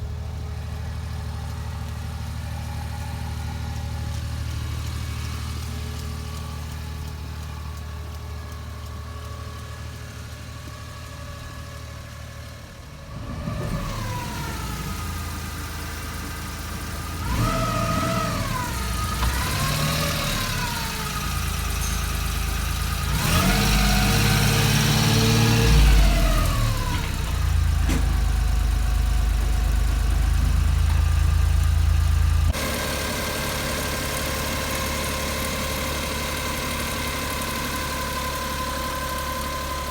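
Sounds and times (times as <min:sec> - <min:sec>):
van engine revving: 0:00.0 - 0:39.9.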